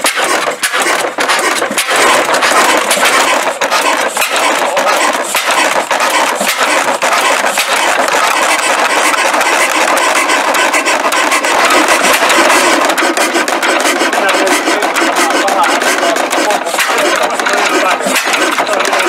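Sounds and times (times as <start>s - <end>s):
oil engine clattering: 0.0s - 19.0s.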